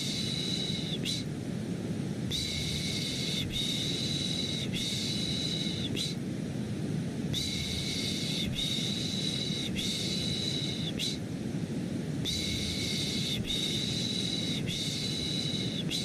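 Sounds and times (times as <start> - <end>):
low white noise: 0.0 - 16.0.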